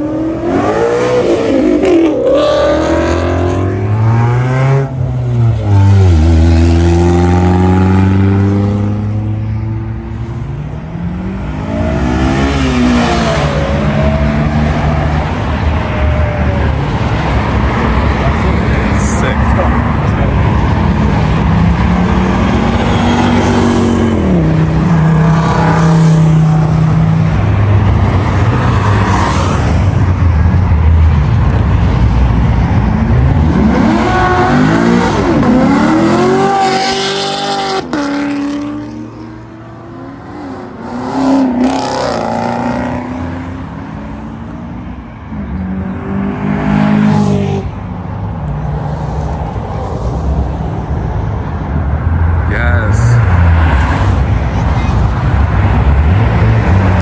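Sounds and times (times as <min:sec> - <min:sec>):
sports car engines revving past: 0:00.0 - 0:57.0.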